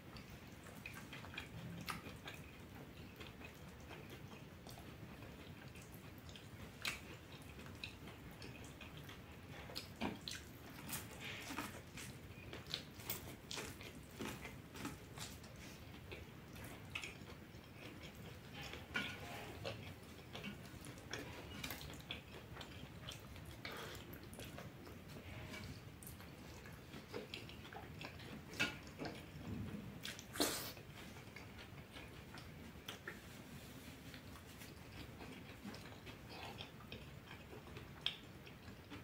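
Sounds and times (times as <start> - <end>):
person chewing food: 0.1 - 39.0.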